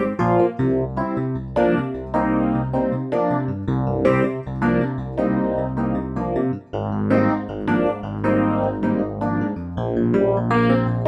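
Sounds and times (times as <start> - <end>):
phaser electric piano chords: 0.0 - 11.0.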